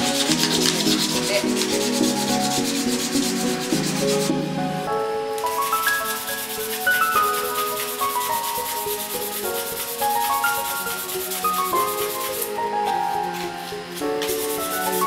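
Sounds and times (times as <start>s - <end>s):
sandpaper rubbing wood: 0.0s - 4.5s, 5.4s - 15.0s
gentle melodic background music: 0.0s - 15.0s.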